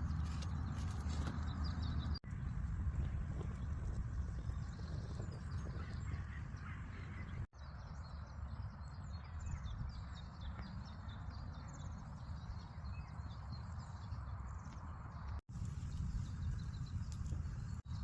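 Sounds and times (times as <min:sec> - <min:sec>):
small birds chirping: 0:00.0 - 0:18.0
wind rumble on microphone: 0:00.0 - 0:18.0.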